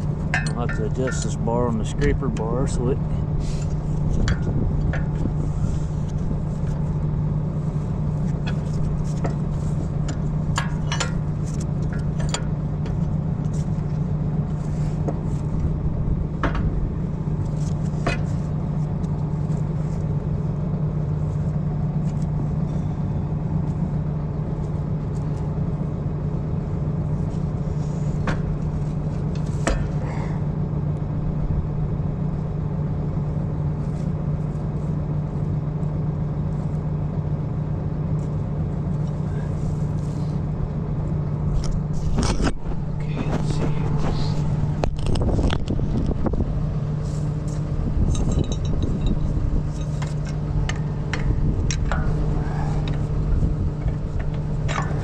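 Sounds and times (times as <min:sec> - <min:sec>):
engine humming: 0:00.0 - 0:55.0.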